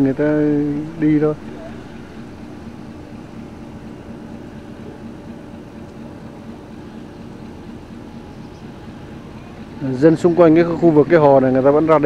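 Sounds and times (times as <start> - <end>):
background hum and hiss: 0.0 - 12.0
faint low drone: 0.0 - 12.0.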